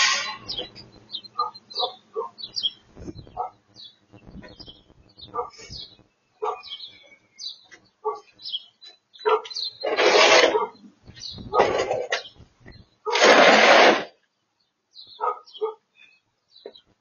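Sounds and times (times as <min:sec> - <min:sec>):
birds chirping: 0:00.0 - 0:13.1, 0:14.2 - 0:17.0.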